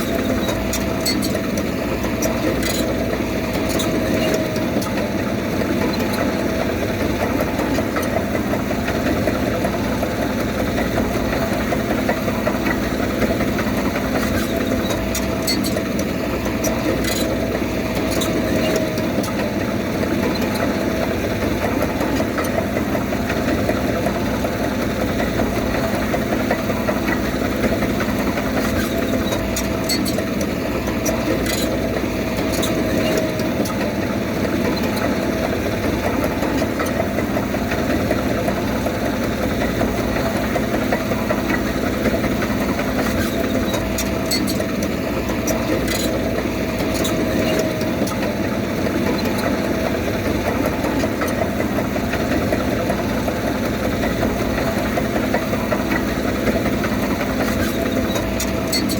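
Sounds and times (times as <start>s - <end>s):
diesel engine of heavy machinery: 0.0s - 58.9s.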